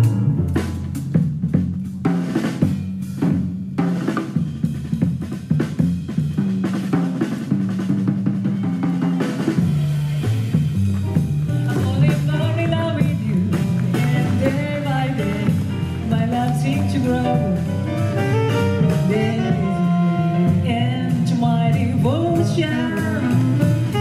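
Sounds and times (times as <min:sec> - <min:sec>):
bass line: 0:00.0 - 0:24.0
drum kit: 0:00.0 - 0:24.0
live jazz band: 0:00.0 - 0:24.0.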